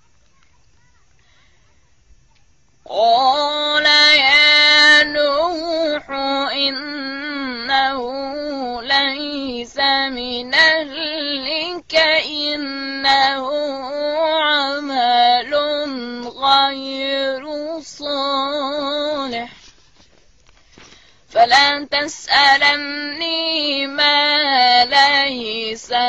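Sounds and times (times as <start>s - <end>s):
boy reciting melodically: 0.0s - 19.7s, 21.3s - 26.0s.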